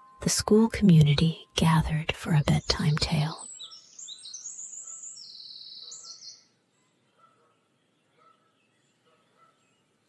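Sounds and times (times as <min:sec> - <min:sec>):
songbird chirping and trilling: 0:00.0 - 0:10.0.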